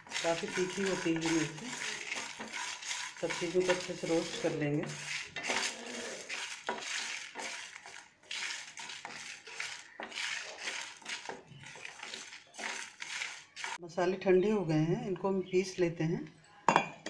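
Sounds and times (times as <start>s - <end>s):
grains rattling against metal: 0.0s - 13.8s
wooden spatula scraping metal pan: 0.0s - 13.8s.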